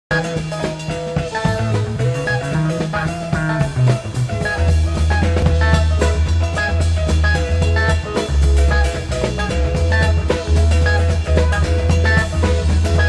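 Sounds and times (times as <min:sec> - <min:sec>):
deep bass line: 0:00.1 - 0:13.0
guitar: 0:00.1 - 0:13.0
steady drum beat: 0:00.1 - 0:13.0.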